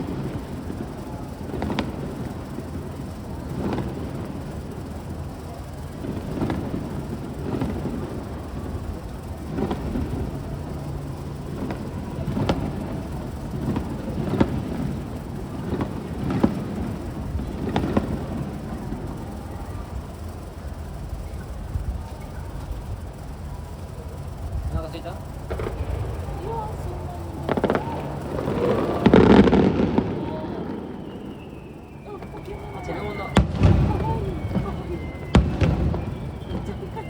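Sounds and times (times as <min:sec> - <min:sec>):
fireworks bursting: 0:00.0 - 0:37.0
steady low rumble: 0:00.0 - 0:37.0.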